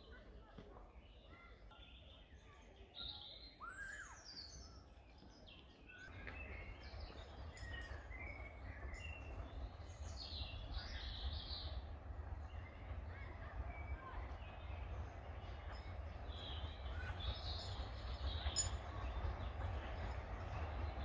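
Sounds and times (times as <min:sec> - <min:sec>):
woodland birds singing: 0:00.9 - 0:21.0.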